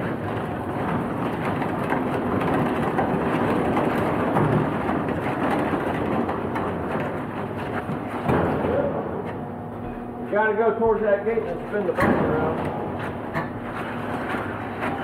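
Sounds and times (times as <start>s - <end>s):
machine rumbling and rattling: 0.0s - 15.0s.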